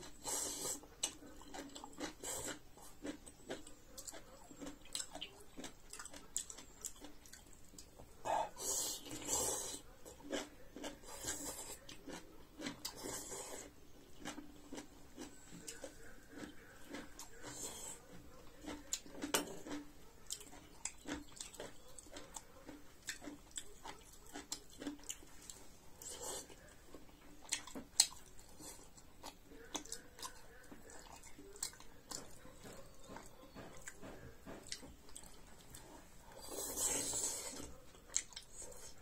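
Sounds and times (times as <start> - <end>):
person chewing: 0.0 - 39.0.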